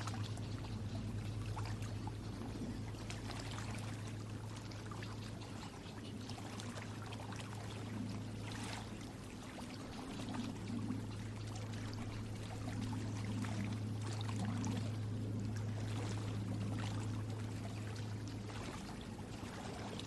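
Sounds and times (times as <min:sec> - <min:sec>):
steady low hum: 0:00.0 - 0:20.0
water trickling and splashing: 0:00.0 - 0:20.0.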